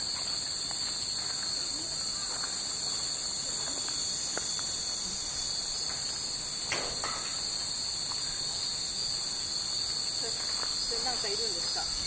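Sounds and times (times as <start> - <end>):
cicadas shrilling: 0.0 - 12.0.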